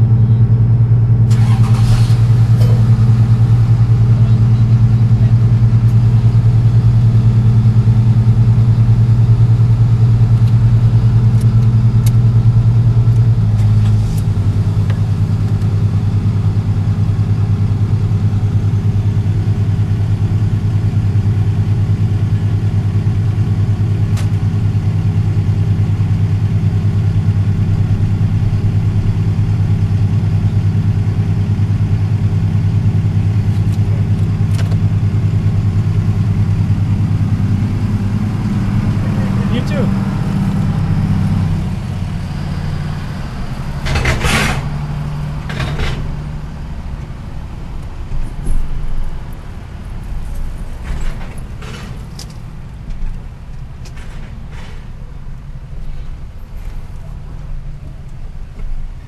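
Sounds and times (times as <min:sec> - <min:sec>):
engine humming: 0:00.0 - 0:59.0.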